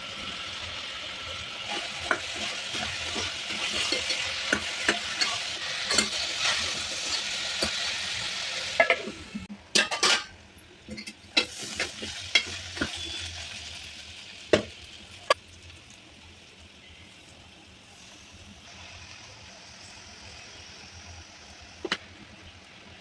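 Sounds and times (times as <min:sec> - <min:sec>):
curry sizzling in a pan: 0:00.0 - 0:23.0.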